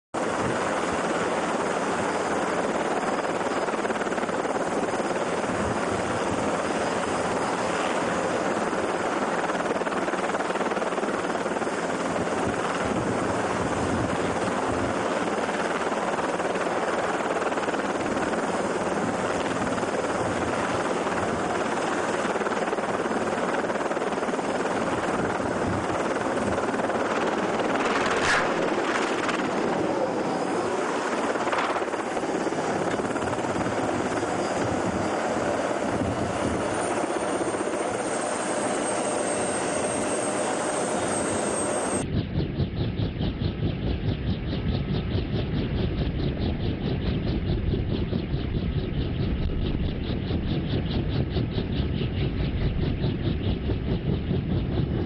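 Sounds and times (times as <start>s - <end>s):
helicopter rotor and engine: 0.1s - 55.0s.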